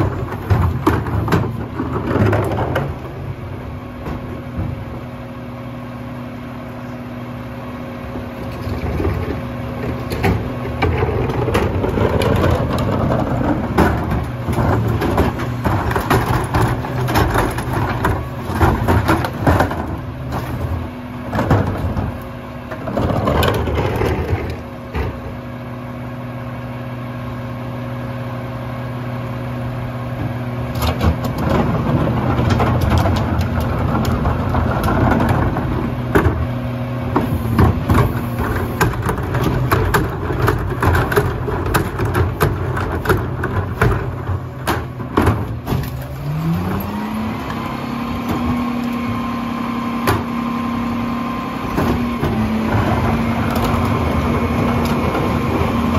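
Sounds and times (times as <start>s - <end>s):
carts knocking and clattering: 0.0s - 5.0s, 8.4s - 25.4s, 30.7s - 49.3s, 50.0s - 55.9s
falling recycling: 0.0s - 5.4s, 8.5s - 25.4s, 30.1s - 55.9s.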